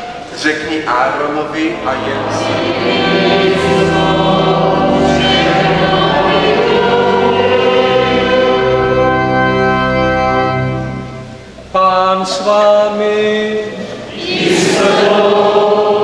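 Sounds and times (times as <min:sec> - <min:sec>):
church choir singing: 0:00.0 - 0:16.0.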